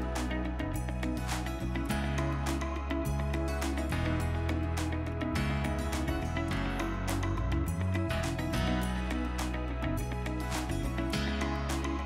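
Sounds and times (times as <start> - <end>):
sustained bass notes: 0.0 - 12.0.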